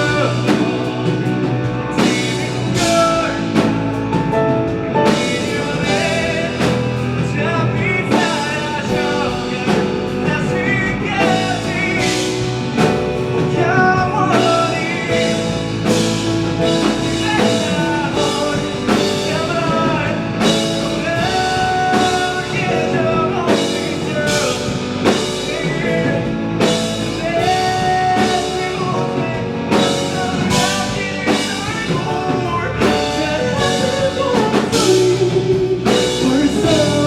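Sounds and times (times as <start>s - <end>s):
live rock ballad band: 0.0s - 37.0s.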